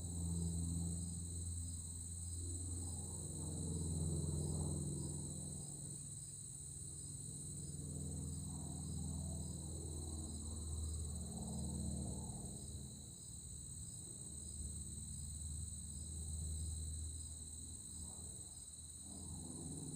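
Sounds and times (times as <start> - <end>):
distant propeller aircraft droning: 0.0 - 19.9.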